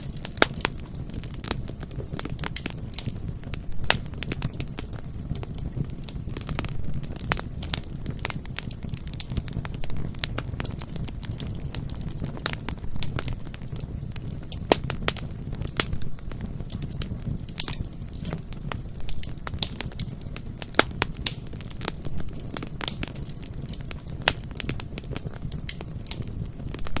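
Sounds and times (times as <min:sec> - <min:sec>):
bonfire crackling: 0:00.0 - 0:27.0
low fire rumble: 0:00.0 - 0:27.0.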